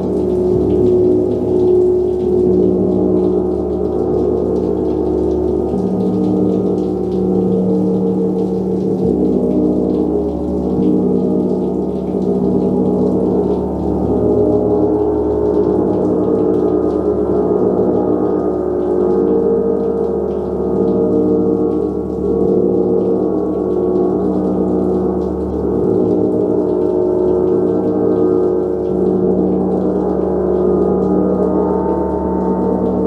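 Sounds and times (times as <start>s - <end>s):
large gong ringing: 0.0s - 33.0s.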